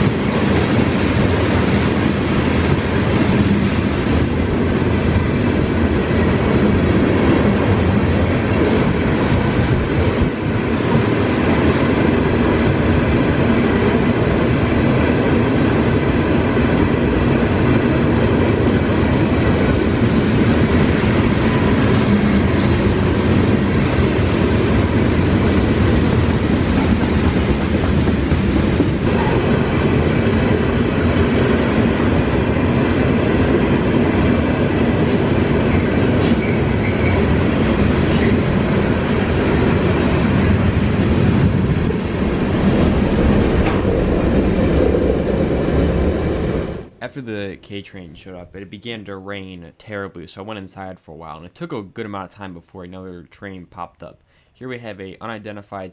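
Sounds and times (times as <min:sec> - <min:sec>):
freight train wheels rumbling on rail: 0:00.0 - 0:48.7.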